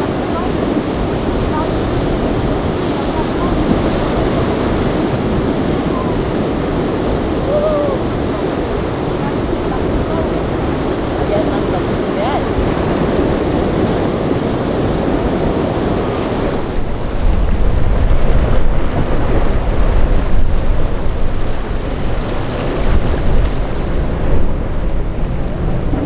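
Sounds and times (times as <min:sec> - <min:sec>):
waves breaking: 0:00.0 - 0:26.0
wind buffeting microphone: 0:00.0 - 0:26.0.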